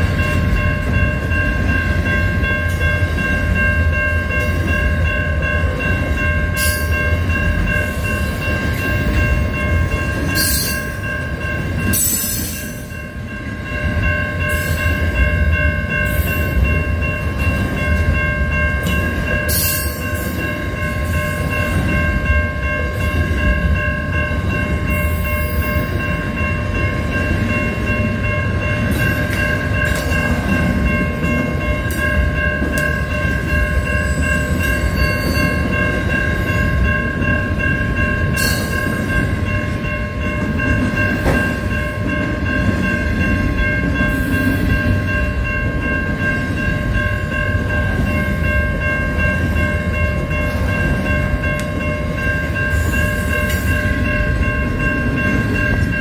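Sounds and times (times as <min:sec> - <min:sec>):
high ringing tones: 0:00.0 - 0:56.0
train wheels rumbling on rails: 0:00.0 - 0:56.0.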